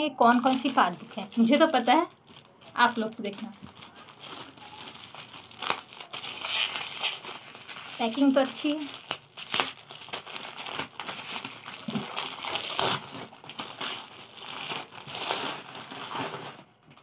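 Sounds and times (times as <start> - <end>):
plastic shrink-wrap crinkling: 0.2 - 17.0
scissors cutting plastic: 0.2 - 17.0.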